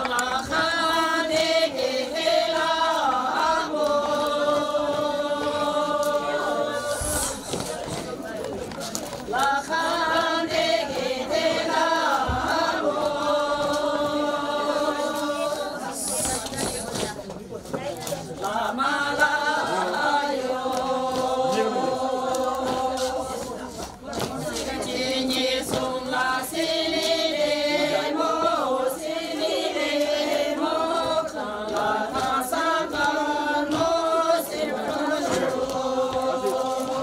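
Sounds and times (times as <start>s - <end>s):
group of voices singing: 0.0s - 37.0s.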